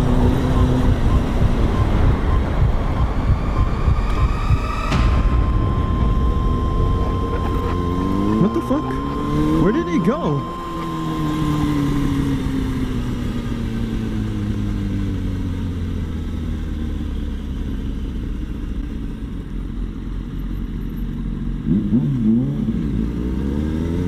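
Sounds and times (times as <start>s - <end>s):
motorcycle engine: 0.0s - 24.0s.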